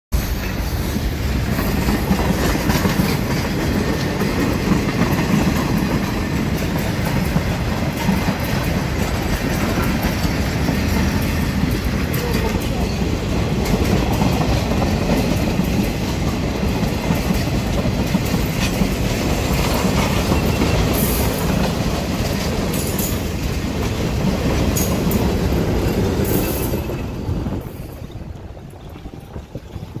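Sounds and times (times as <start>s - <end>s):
train wheels rumbling on rail: 0.1s - 30.0s.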